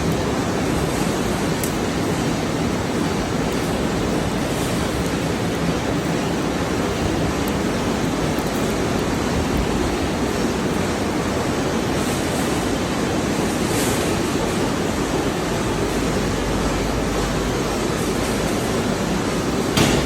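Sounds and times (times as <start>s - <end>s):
furnace plant rushing noise: 0.0s - 20.0s.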